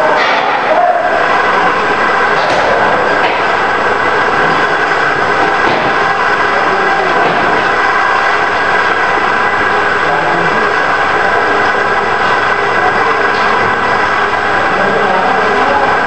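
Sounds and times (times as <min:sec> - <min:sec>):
machinery droning and whining: 0:00.0 - 0:16.0.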